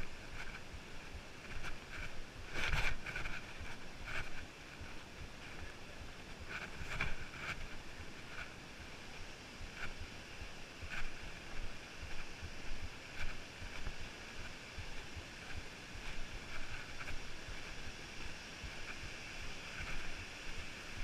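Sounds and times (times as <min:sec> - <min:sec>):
footsteps crunching on rocky trail: 0:00.0 - 0:21.0
wind rumbling on microphone: 0:00.0 - 0:21.0.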